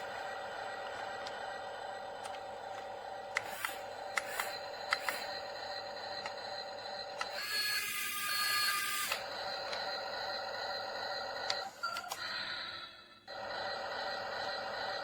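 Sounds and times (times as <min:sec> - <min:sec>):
toy electric motors whirring: 0:00.0 - 0:12.3.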